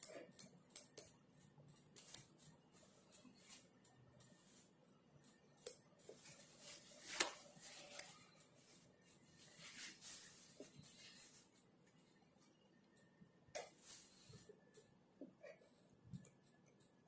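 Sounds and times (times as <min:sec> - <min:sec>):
soft scratching strokes: 0:00.0 - 0:17.0.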